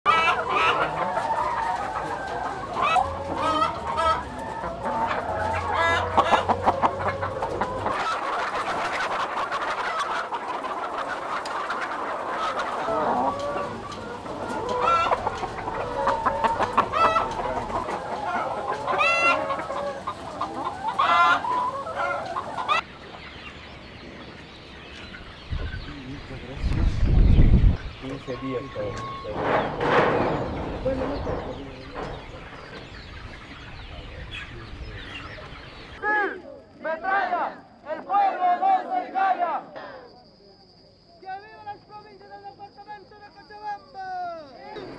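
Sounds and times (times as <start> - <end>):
hens clucking: 0.1 - 37.7.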